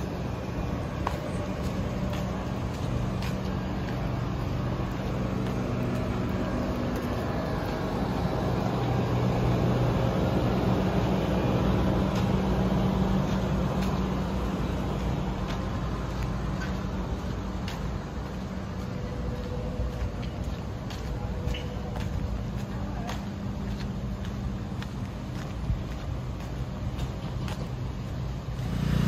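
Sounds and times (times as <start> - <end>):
engine humming: 0.0 - 29.0
street noise: 0.0 - 29.0.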